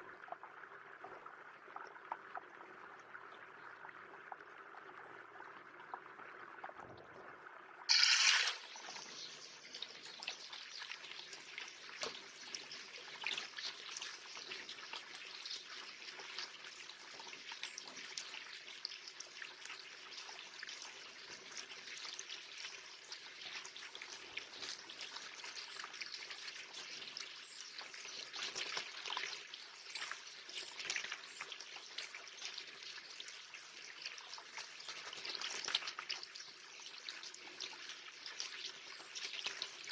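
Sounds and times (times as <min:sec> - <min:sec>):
water dripping: 0:07.9 - 0:39.9
water splashing in bird bath: 0:07.9 - 0:39.9.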